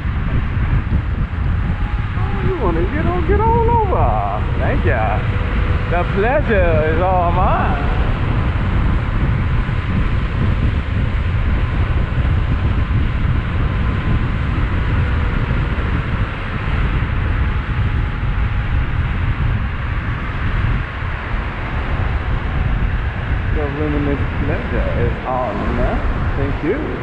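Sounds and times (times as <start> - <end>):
low buffeting rumble: 0.0 - 27.0
road noise from riding: 0.0 - 27.0
wind rush: 0.0 - 27.0.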